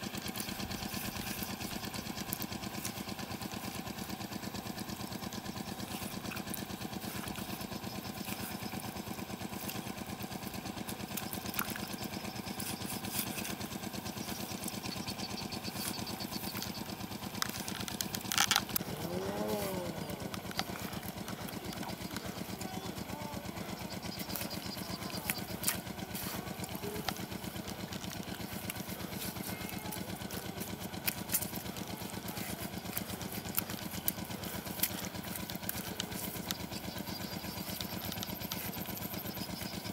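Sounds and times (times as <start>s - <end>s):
small engine droning: 0.0s - 39.9s.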